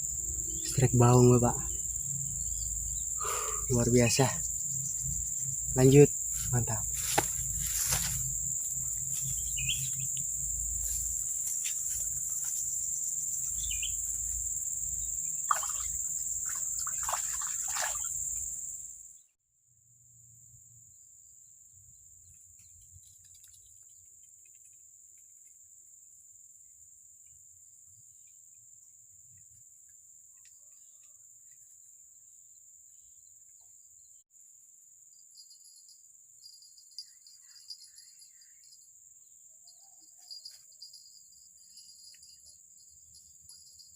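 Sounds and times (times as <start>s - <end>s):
insects buzzing: 0.0s - 19.3s, 20.3s - 43.9s.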